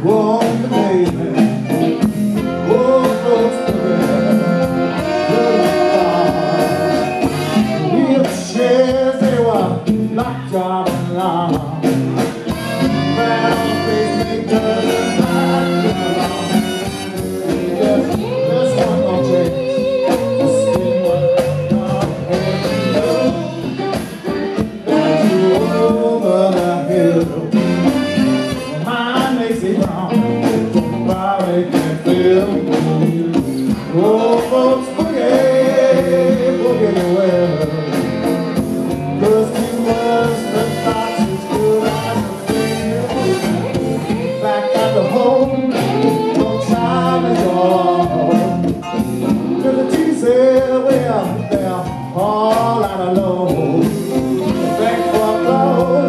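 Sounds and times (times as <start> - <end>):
live rock band playing: 0.0 - 56.0
man singing: 0.0 - 56.0.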